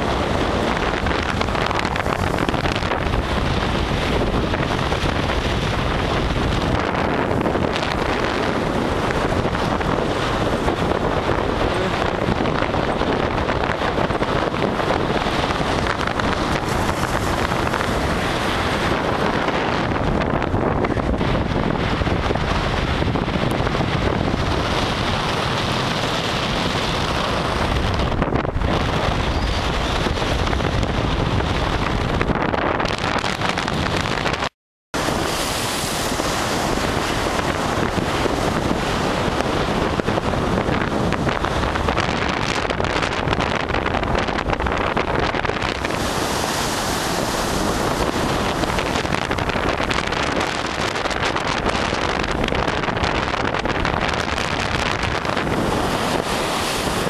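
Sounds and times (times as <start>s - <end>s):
waves breaking on a beach: 0.0s - 57.0s
wind buffeting microphone: 0.0s - 57.0s.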